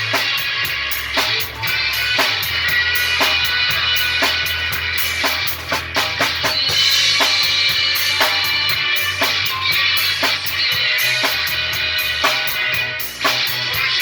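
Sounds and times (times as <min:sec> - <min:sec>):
drum kit: 0:00.0 - 0:14.0
rock and roll band: 0:00.0 - 0:14.0.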